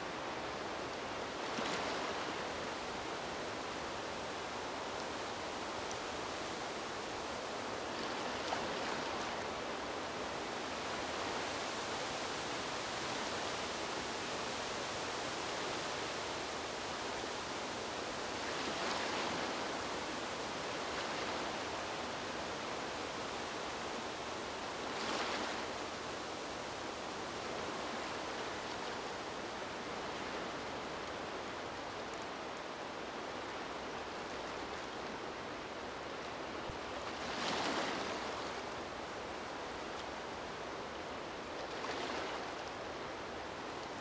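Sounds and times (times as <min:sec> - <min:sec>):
gentle waves washing in: 0:00.0 - 0:44.0
wind through palm fronds: 0:00.0 - 0:44.0.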